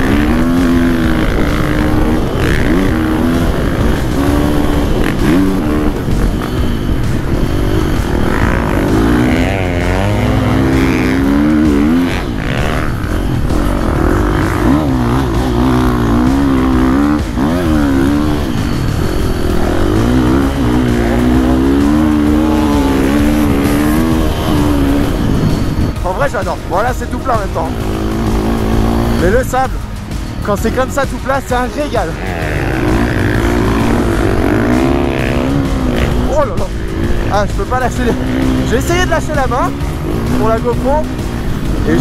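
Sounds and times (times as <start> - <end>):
motocross engine revving: 0.0 - 42.0.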